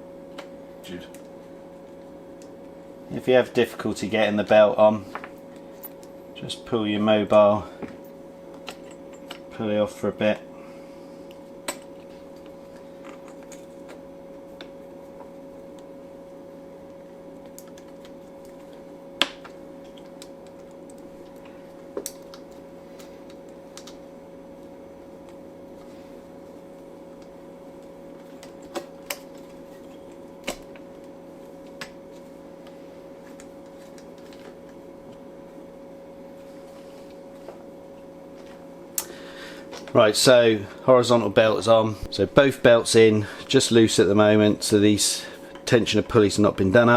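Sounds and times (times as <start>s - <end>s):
steady background hum: 0.0s - 46.9s.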